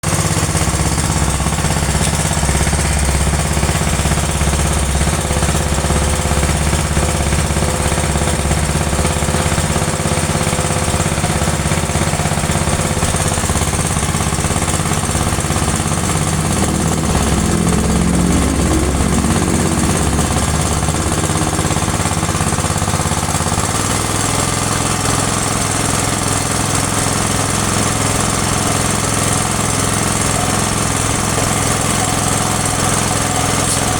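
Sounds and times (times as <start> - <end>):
pressure washer machine humming: 0.0 - 33.9.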